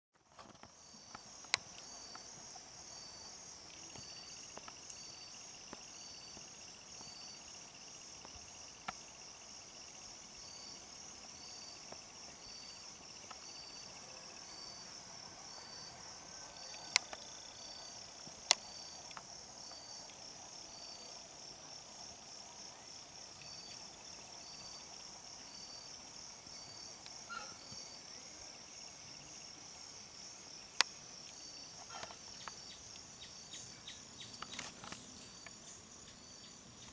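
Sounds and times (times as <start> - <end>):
insect chorus chirring: 0.4 - 36.9.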